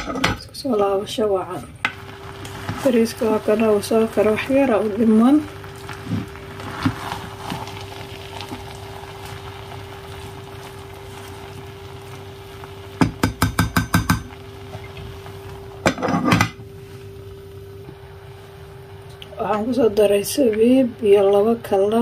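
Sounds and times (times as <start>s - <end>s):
rice cooker hum: 0.0s - 22.0s.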